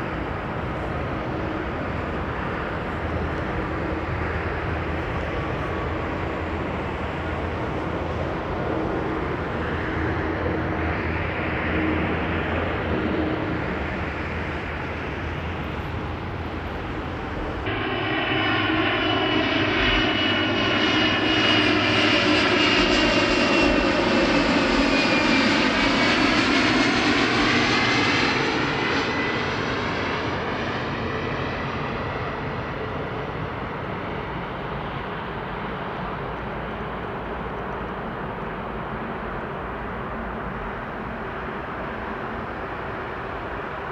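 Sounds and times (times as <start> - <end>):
jet engine whine: 0.0 - 43.9.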